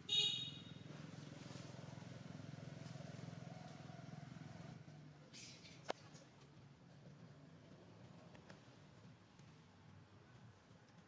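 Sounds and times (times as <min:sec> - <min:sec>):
engine humming with fast pulse: 0:00.0 - 0:11.0.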